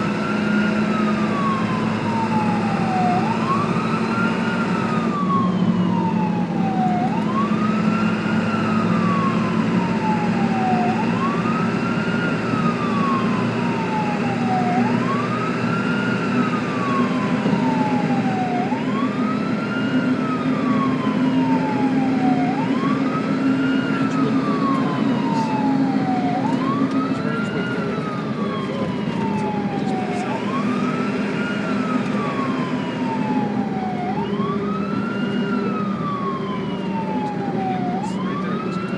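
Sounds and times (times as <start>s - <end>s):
ambulance siren wailing: 0.0s - 38.9s.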